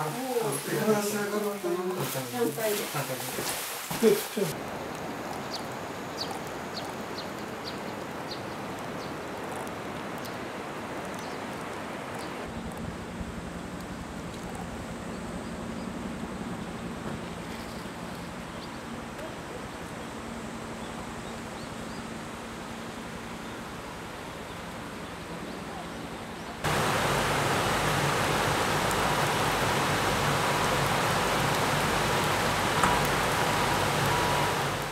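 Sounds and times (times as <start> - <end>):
quiet outdoor ambience: 0.0 - 34.9
steady rushing hiss: 0.0 - 34.9.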